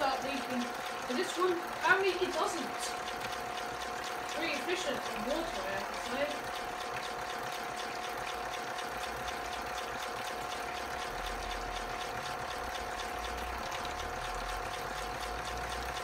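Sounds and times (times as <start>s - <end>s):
toy washing machine motor whine: 0.0s - 16.0s.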